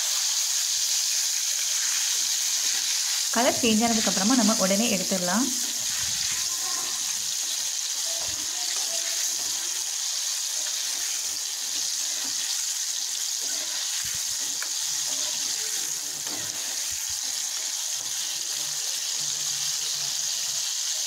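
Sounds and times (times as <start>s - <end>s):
prawns sizzling in hot oil: 0.0s - 21.0s.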